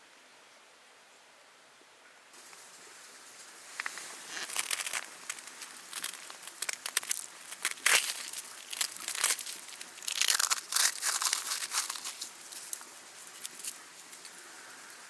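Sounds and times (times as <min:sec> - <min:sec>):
rustling and crinkling: 0:02.4 - 0:15.0.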